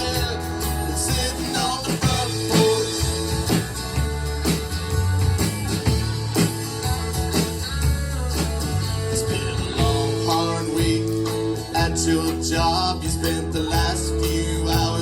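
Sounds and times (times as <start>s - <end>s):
live band playing country music: 0.0s - 15.0s.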